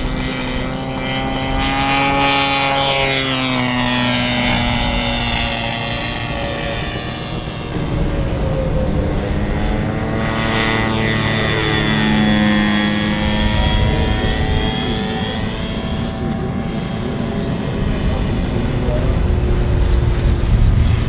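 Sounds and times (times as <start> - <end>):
model plane engine and propeller: 0.0 - 21.0.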